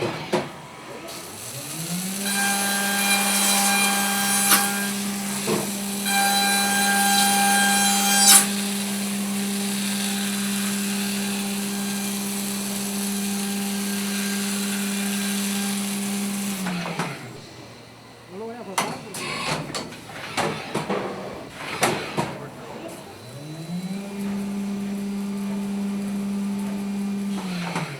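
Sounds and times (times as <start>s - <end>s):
milling machine spindle running: 0.0s - 27.9s.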